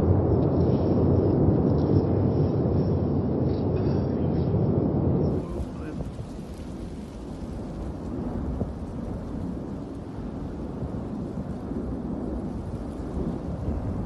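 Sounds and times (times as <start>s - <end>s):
volcano rumbling and crackling: 0.0s - 14.0s.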